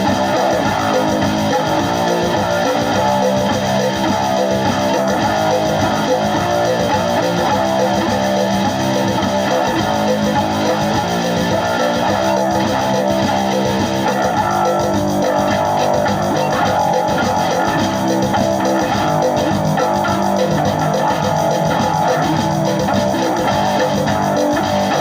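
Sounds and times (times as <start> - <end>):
guitar-led rock music: 0.0 - 25.0.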